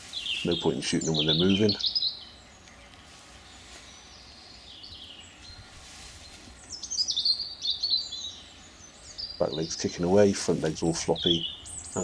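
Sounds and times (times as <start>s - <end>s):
low background noise: 0.0s - 12.0s
songbirds chirping and trilling: 0.0s - 12.0s.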